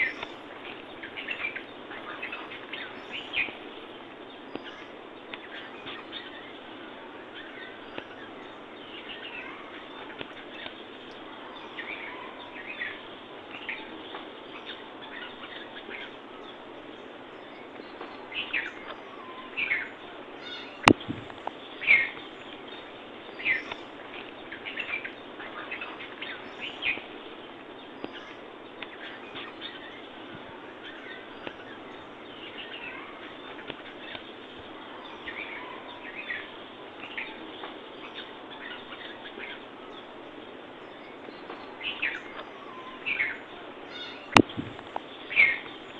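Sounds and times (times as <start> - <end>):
background hiss: 0.0 - 45.9
small birds chirping: 0.0 - 45.9.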